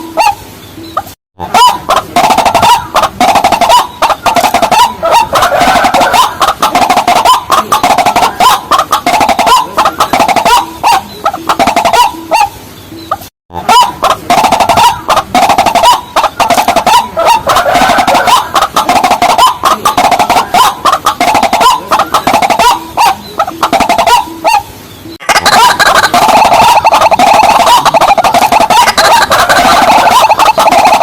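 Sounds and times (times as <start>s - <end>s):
waterhen clucking calls: 0.0s - 31.0s.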